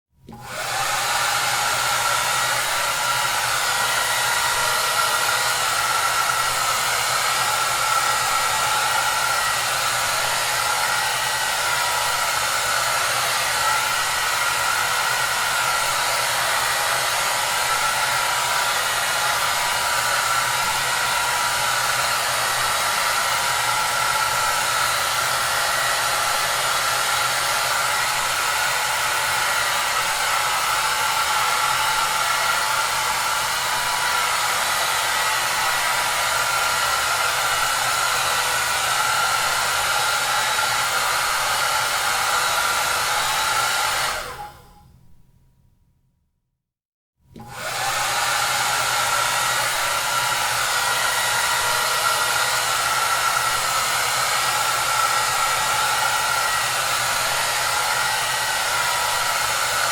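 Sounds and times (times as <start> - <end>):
hair dryer running: 0.2 - 44.8, 47.3 - 59.9.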